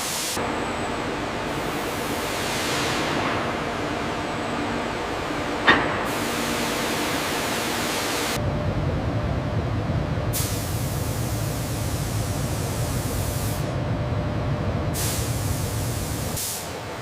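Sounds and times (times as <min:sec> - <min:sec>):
hissing industrial noise: 0:00.0 - 0:13.9, 0:14.9 - 0:17.0.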